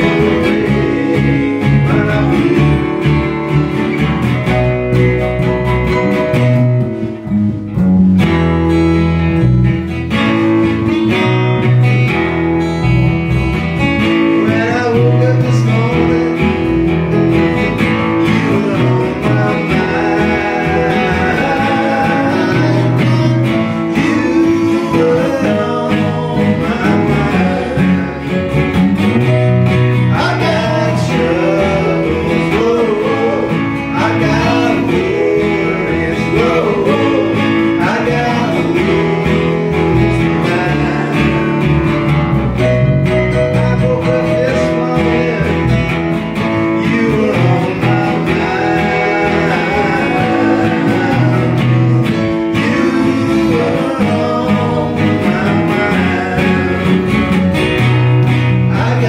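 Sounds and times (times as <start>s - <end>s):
men singing: 0.0s - 7.1s, 14.0s - 59.0s
electric bass: 0.0s - 59.0s
keyboard: 0.0s - 59.0s
strummed acoustic guitar: 0.0s - 59.0s.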